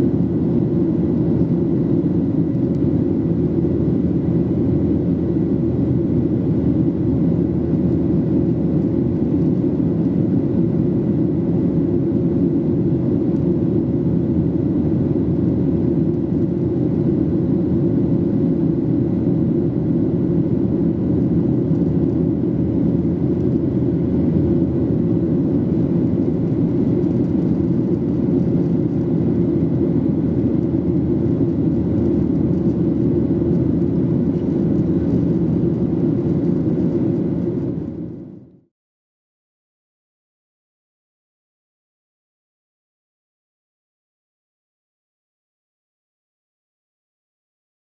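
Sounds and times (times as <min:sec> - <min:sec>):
airplane cabin engine rumble: 0:00.0 - 0:38.7.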